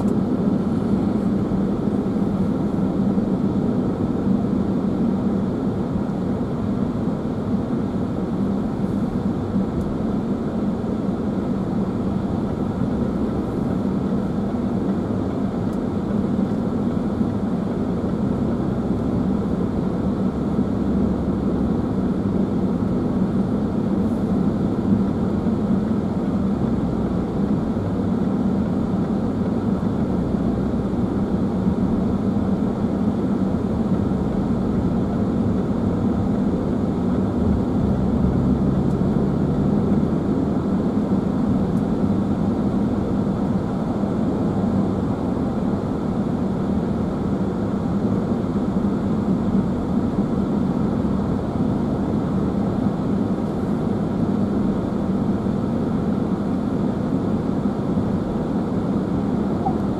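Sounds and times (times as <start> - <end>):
car tyre and engine drone: 0.0 - 59.9.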